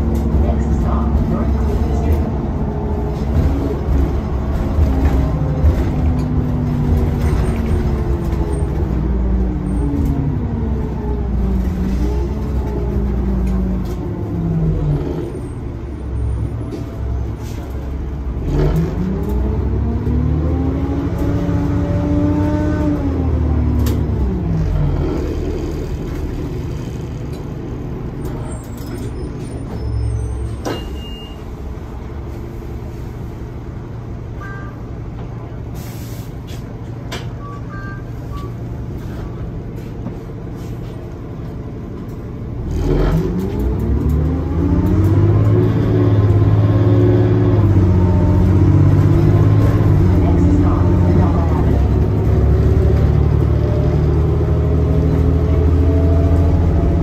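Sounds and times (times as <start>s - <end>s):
bus engine rumble: 0.0s - 57.0s
road noise: 0.0s - 57.0s.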